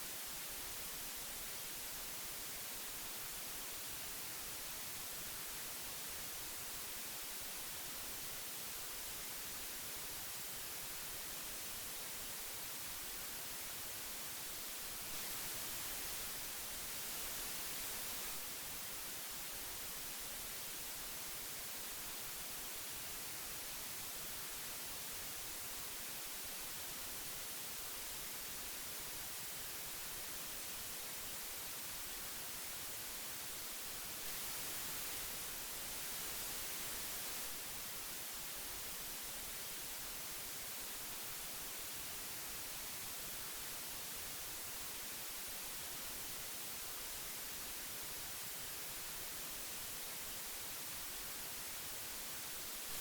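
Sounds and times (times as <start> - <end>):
magnetic tape hiss: 0.0 - 53.0.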